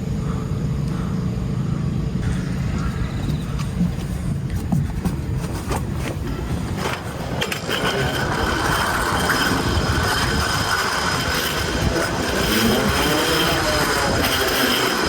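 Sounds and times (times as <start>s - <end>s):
steady whine: 0.0s - 15.0s
metal rollers rumbling and rattling: 2.2s - 15.0s.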